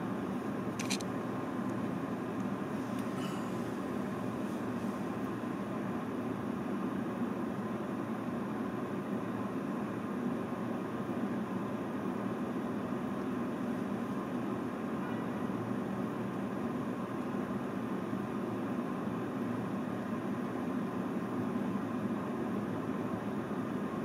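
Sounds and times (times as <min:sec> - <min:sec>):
vehicle engine and road hum: 0:00.0 - 0:24.0.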